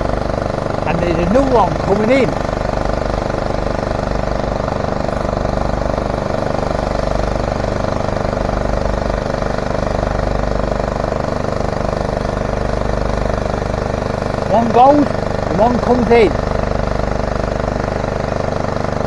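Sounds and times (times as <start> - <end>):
heavy machinery engine drone: 0.0 - 19.0.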